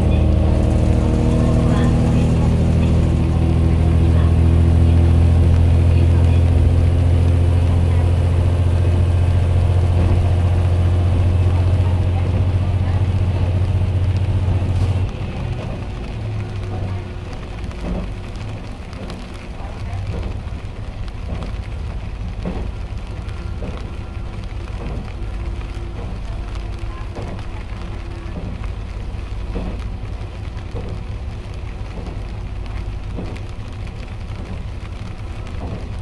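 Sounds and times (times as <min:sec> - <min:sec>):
railcar rumbling on track: 0:00.0 - 0:36.0.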